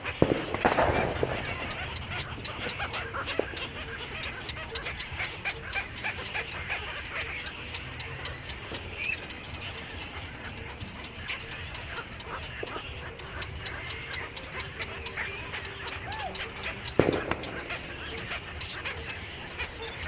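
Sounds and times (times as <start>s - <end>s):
many birds chirping: 0.0s - 20.0s.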